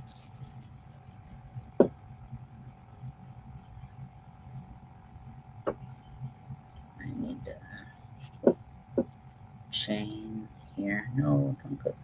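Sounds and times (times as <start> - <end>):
low pulsing room noise: 0.0 - 12.0
steady background hum: 0.0 - 12.0.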